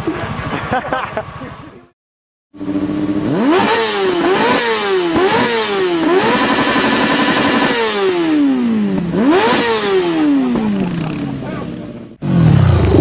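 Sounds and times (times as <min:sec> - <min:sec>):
small motorbike engine revving: 0:02.6 - 0:13.0.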